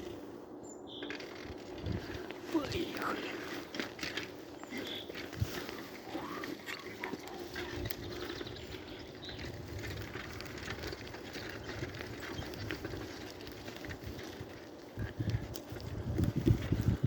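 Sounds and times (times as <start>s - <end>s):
birds calling: 0.0s - 17.0s
wind rumbling on microphone: 0.0s - 17.0s.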